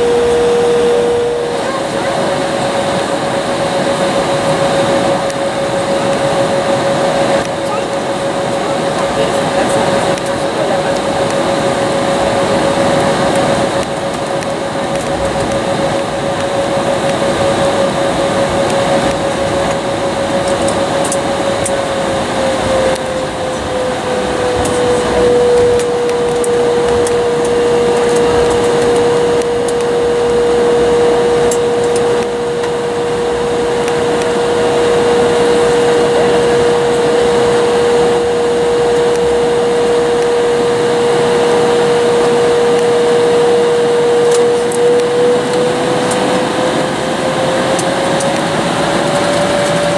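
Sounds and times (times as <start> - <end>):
jet engine whine: 0.0 - 49.9.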